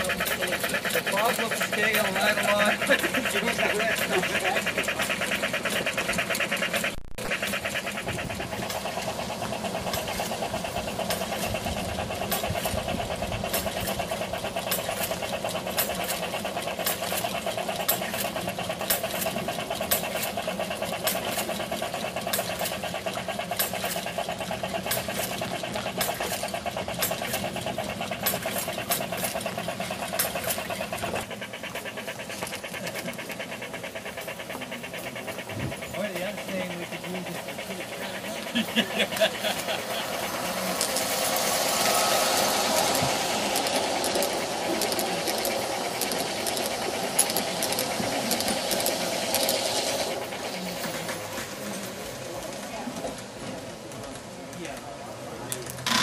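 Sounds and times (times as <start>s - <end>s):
model train motor whirring: 0.0s - 56.0s
wheels clicking over track: 0.0s - 56.0s.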